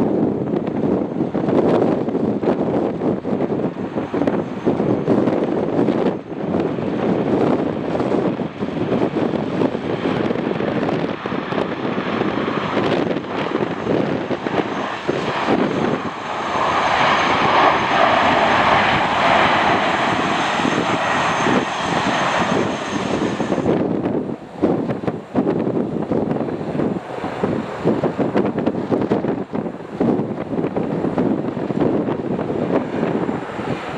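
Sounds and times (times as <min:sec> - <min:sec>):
aircraft engines: 0:00.0 - 0:33.9
wind buffeting microphone: 0:00.0 - 0:33.9.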